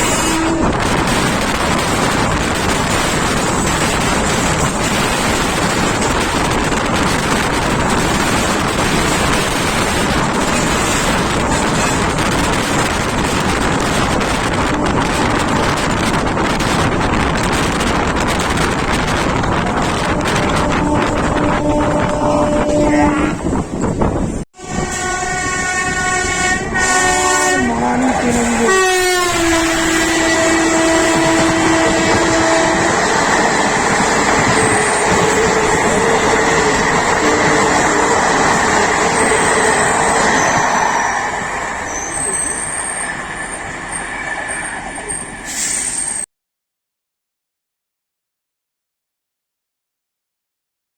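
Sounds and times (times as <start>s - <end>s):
wind rushing on microphone: 0.0s - 41.9s
train wheels on track: 0.0s - 46.3s.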